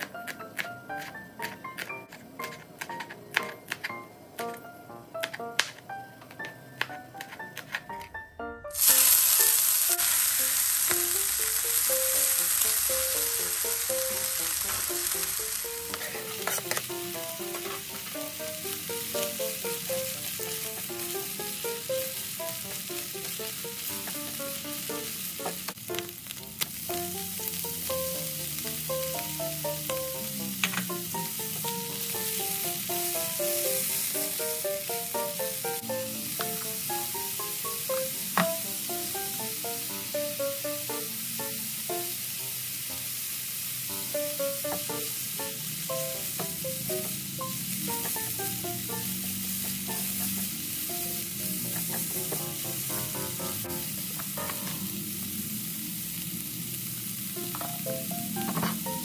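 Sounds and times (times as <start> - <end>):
vegetables sizzling in hot oil: 8.7 - 59.0.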